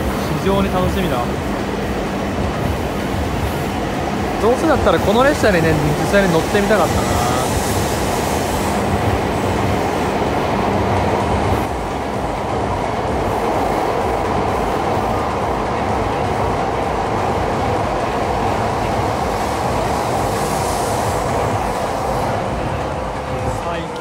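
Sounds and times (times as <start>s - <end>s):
train wheels rushing on rails: 0.0s - 24.0s.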